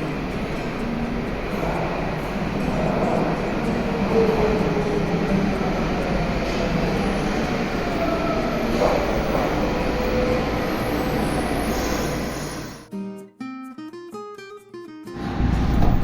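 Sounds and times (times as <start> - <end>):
train rumbling: 0.0 - 12.9, 15.2 - 16.0.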